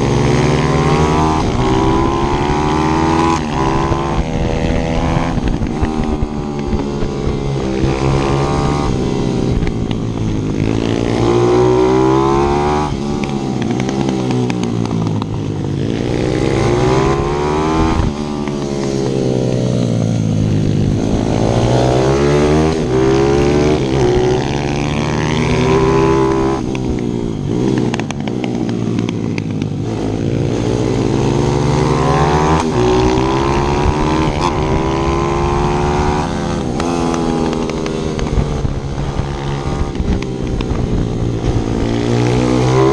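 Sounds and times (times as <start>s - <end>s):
motorbike engines revving: 0.0s - 42.9s.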